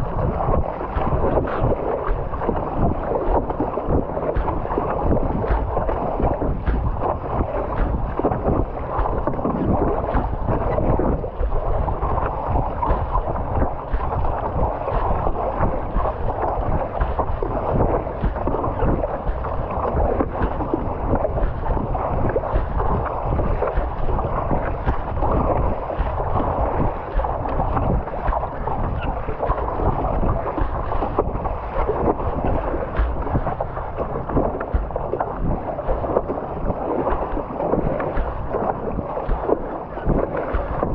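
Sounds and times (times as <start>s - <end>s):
water sloshing and splashing: 0.0s - 40.9s
wind buffeting microphone: 0.0s - 40.9s.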